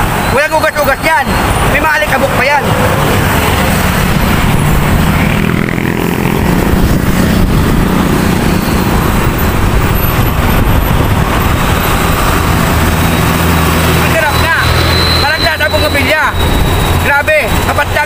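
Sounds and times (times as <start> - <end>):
bus and truck engines rumbling: 0.0 - 18.0.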